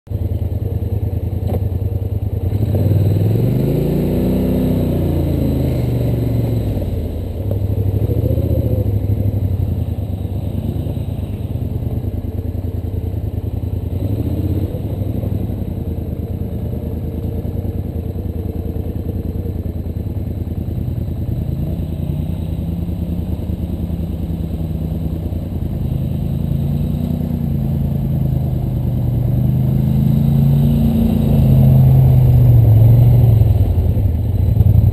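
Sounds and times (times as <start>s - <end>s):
atv engine revving: 0.2s - 34.9s.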